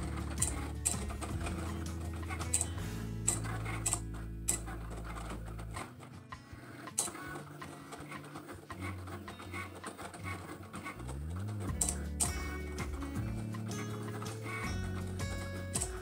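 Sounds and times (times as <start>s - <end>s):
cutting machine motors whirring: 0.0s - 16.0s
sharp clicks: 0.4s - 14.7s.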